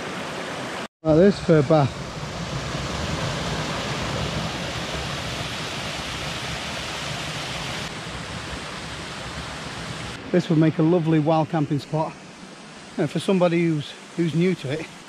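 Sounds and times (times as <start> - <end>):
waterfall and stream rushing: 0.0 - 15.0.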